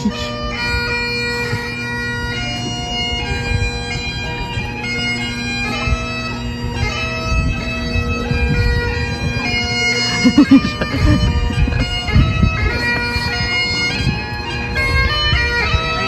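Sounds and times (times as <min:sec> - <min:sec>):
bagpipes playing a tune: 0:00.0 - 0:16.0.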